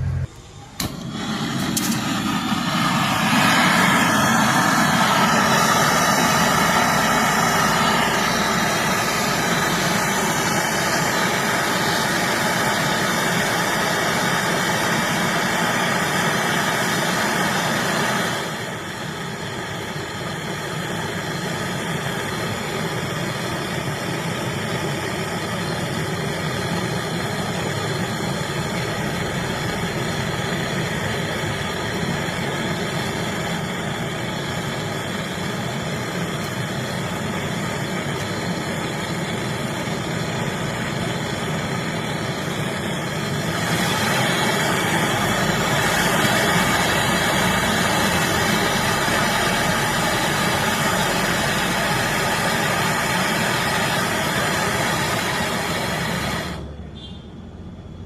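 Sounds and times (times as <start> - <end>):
torch flame hissing: 0.2 - 56.7.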